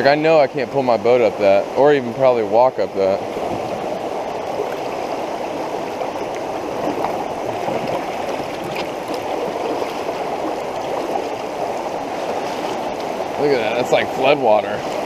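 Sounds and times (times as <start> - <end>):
flooded creek rushing: 0.0 - 15.0.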